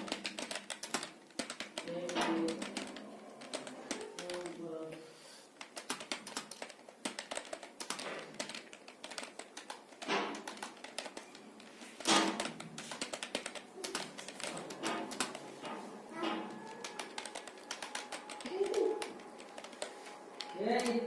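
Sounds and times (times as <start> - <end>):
keyboard typing clicks: 0.0 - 4.6, 5.6 - 21.0.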